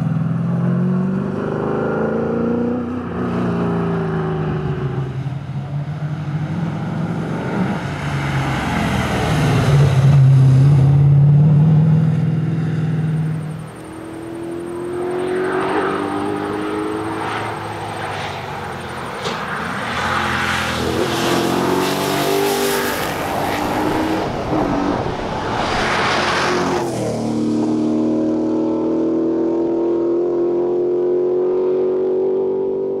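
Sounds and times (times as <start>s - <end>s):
car engine accelerating hard: 6.1s - 33.0s.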